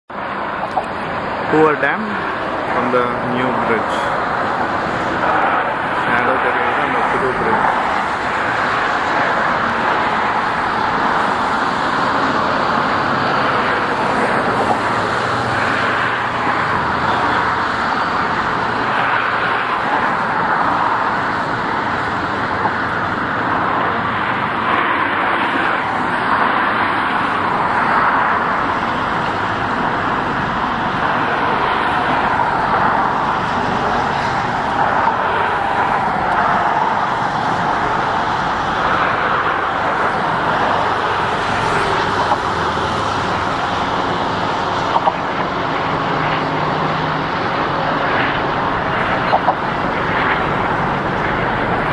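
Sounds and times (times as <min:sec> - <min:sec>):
road traffic noise: 0:00.1 - 0:51.9.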